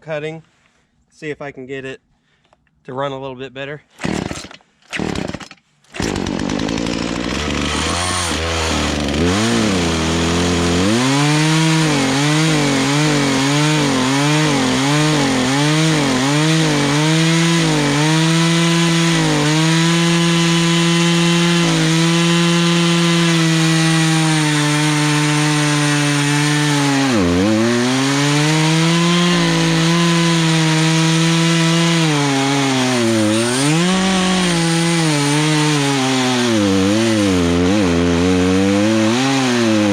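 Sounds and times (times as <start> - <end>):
chainsaw cutting a log: 4.0 - 39.9.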